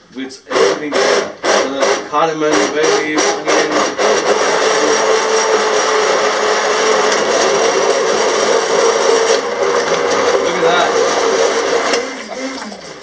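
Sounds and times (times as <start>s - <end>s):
immersion blender running: 0.5s - 13.0s.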